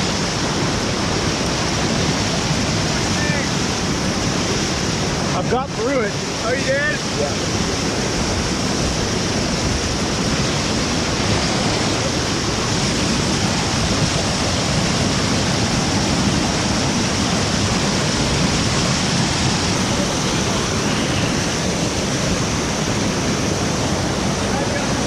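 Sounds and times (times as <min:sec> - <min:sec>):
whitewater rapids rushing: 0:00.0 - 0:25.0.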